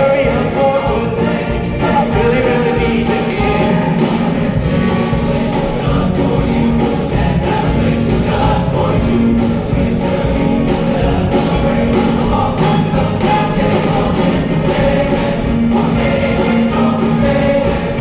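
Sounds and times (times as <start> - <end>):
choir singing christmas song: 0.0 - 18.0
instrumental accompaniment with beat: 0.0 - 18.0.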